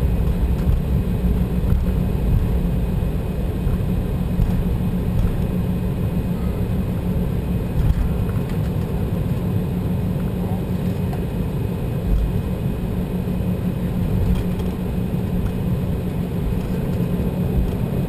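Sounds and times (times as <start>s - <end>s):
jet cabin low rumble: 0.0s - 18.0s.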